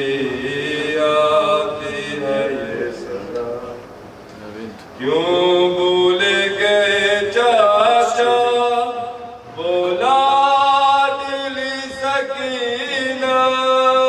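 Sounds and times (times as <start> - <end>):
man chanting: 0.0 - 3.8, 5.0 - 14.0.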